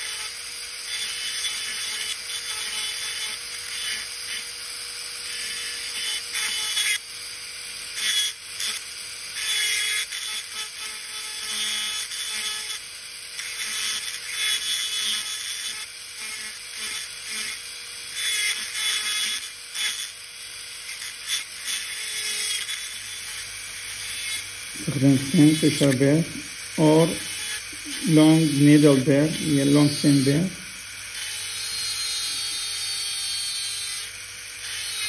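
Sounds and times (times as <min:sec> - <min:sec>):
dental drill grinding plastic: 0:00.0 - 0:35.0.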